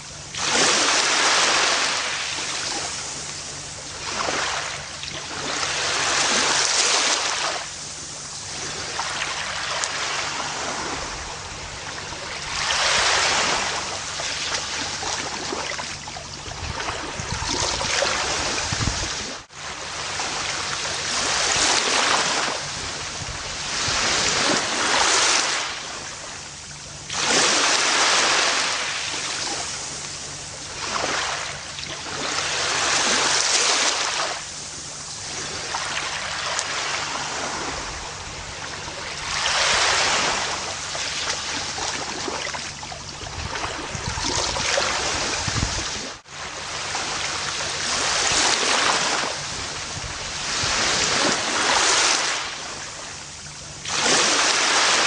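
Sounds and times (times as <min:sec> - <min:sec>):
ocean waves washing on beach: 0:00.0 - 0:55.0.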